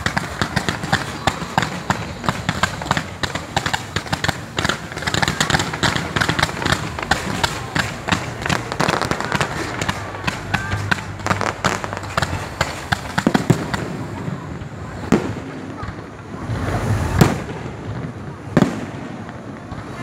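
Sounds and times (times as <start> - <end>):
fireworks crackling and popping: 0.0 - 20.0
voices in background: 0.0 - 20.0.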